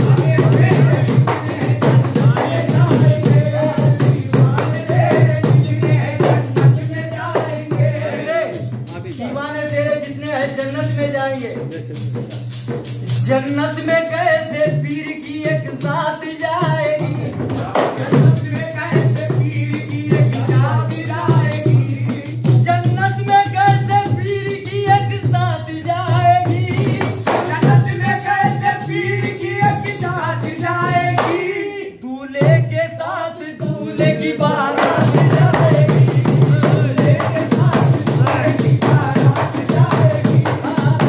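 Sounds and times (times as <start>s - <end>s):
steady percussion rhythm: 0.0s - 41.0s.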